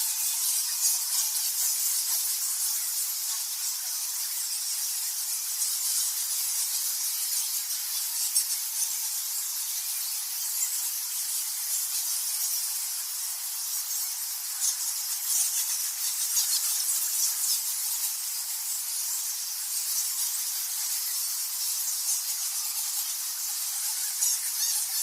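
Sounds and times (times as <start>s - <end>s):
bats chattering: 0.1s - 25.0s.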